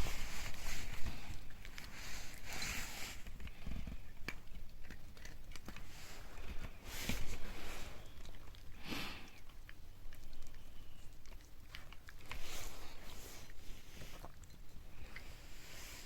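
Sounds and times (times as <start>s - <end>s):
dog chewing: 0.0s - 16.0s.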